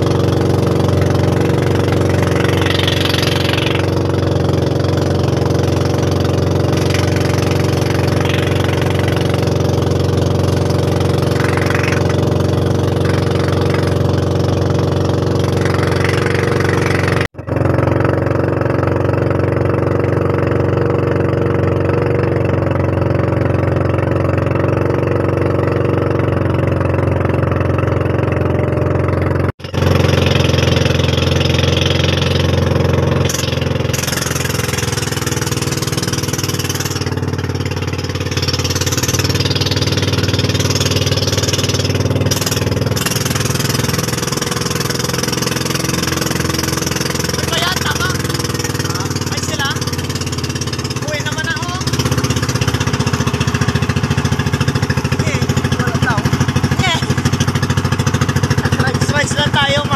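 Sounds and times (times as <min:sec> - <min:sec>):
boat engine running: 0:00.0 - 0:59.9
water rushing along hull: 0:00.0 - 0:59.9.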